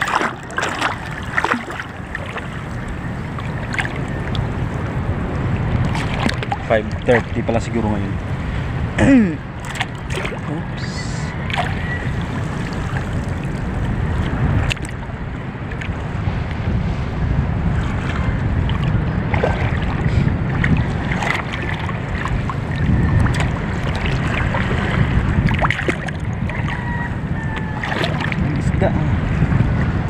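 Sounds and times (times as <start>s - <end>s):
sea water lapping: 0.0s - 30.0s
wind buffeting microphone: 0.0s - 30.0s.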